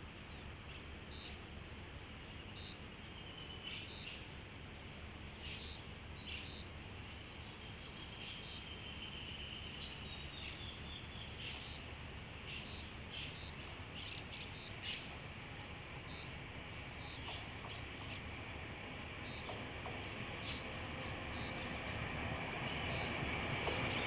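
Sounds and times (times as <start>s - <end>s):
birds chirping: 0.1s - 24.0s.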